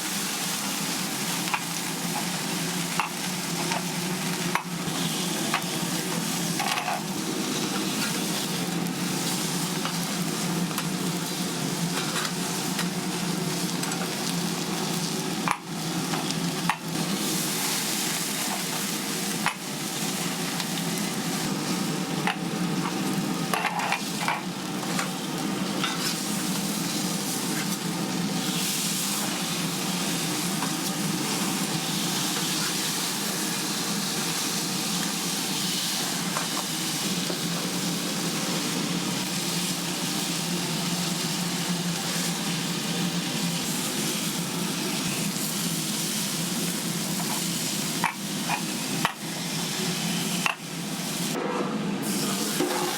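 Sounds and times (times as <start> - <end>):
food frying with a sizzle: 0.0 - 51.4, 52.0 - 52.9.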